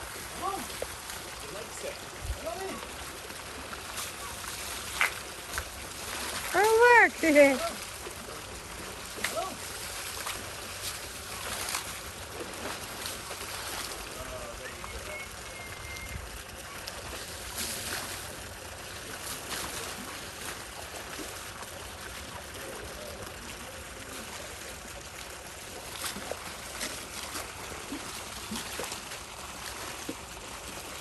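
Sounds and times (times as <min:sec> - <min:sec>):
water trickling and splashing: 0:00.0 - 0:31.0.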